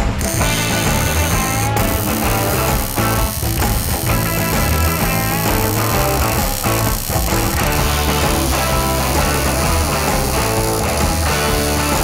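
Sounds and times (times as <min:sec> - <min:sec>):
rock music with guitar and bass: 0:00.0 - 0:12.0.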